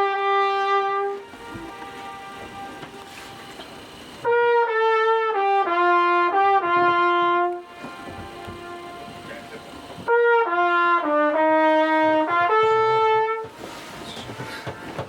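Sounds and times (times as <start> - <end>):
trumpet echoes: 0.0 - 15.0
trumpet note: 0.0 - 15.0.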